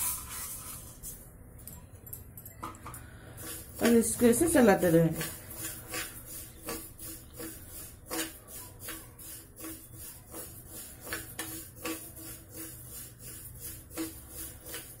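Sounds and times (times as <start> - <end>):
spoon scraping lentils in metal pan: 0.0 - 1.3, 3.1 - 15.0.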